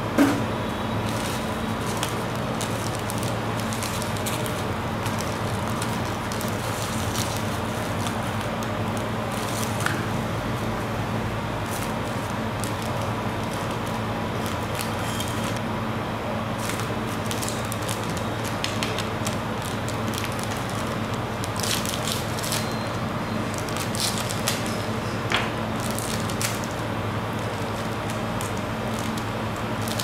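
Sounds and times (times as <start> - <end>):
steady low hum: 0.0 - 30.0
plastic wrappers crinkling: 1.0 - 10.7, 11.6 - 15.6, 16.5 - 30.0.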